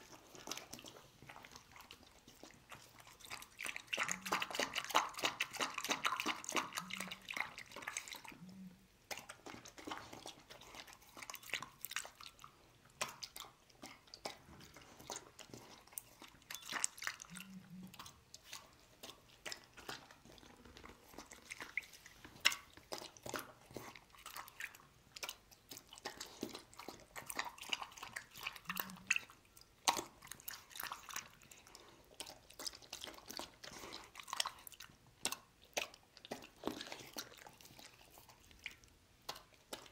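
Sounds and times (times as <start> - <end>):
dog chewing and lapping: 0.0 - 39.9.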